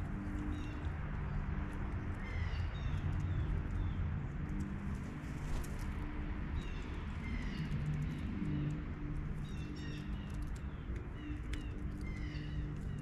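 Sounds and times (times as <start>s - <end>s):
birds chirping falling notes: 0.0s - 13.0s
steady low hum: 0.0s - 13.0s.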